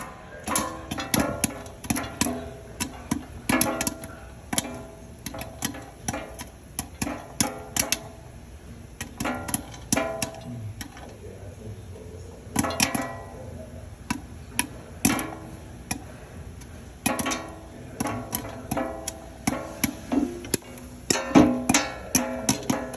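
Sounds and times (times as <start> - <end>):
popcorn popping: 0.0 - 22.9.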